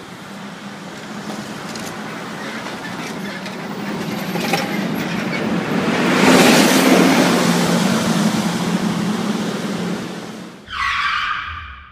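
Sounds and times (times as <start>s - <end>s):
bus diesel engine accelerating: 0.0s - 10.7s.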